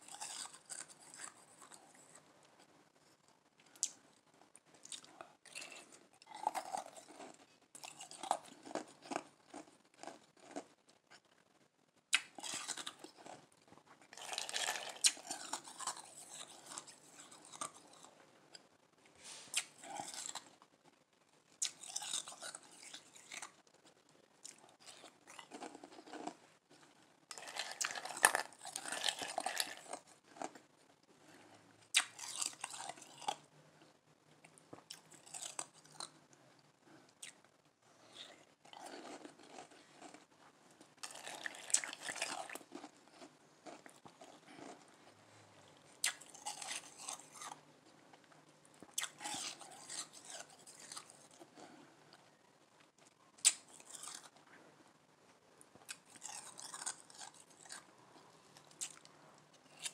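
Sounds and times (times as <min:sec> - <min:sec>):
ice being crunched and chewed: 0:00.0 - 0:02.2, 0:04.8 - 0:11.3, 0:12.1 - 0:18.6, 0:19.2 - 0:20.7, 0:21.6 - 0:30.6, 0:31.3 - 0:33.5, 0:34.5 - 0:36.1, 0:38.0 - 0:54.6, 0:55.7 - 0:59.9.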